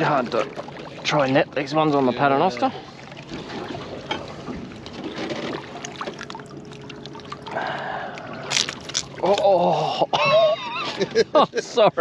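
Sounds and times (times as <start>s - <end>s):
water trickling and splashing: 0.0s - 10.5s.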